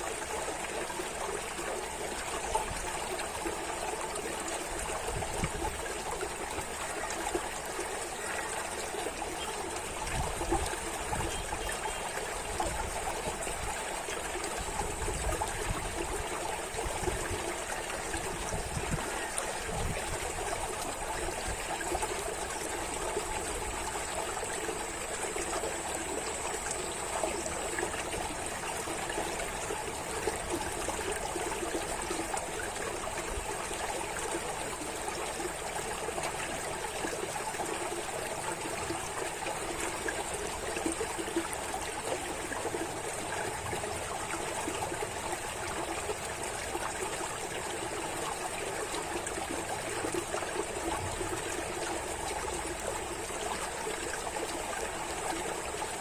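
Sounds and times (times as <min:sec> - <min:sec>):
water trickling and babbling: 0:00.0 - 0:56.0.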